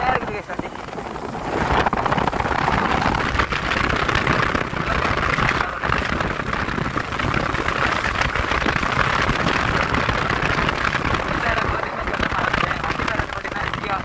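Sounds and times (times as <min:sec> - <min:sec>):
motorcycle engine running: 0:00.0 - 0:14.0
steady rushing noise: 0:00.0 - 0:14.0.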